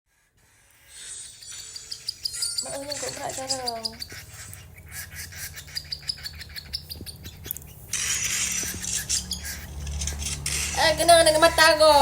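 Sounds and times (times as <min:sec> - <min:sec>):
parrots chirping: 0:00.4 - 0:12.0.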